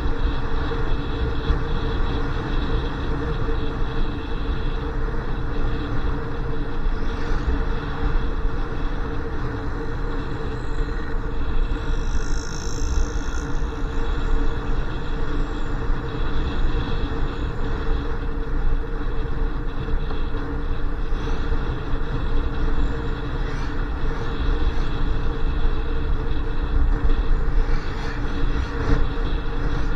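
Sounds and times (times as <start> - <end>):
motorcycle engine hum: 0.0 - 29.9
wind rumble on microphone: 0.0 - 29.9.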